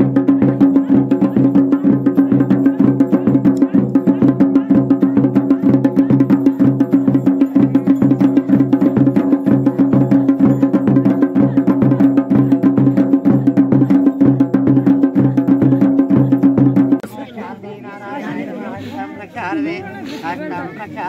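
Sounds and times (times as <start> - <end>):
drums beating fast rhythm: 0.0 - 17.1.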